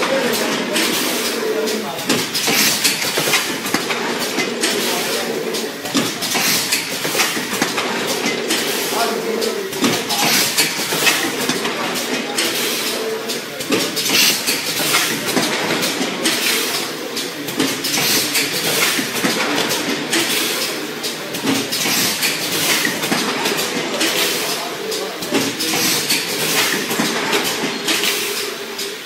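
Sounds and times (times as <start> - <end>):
packaging machine clattering: 0.0 - 13.0, 13.6 - 29.0.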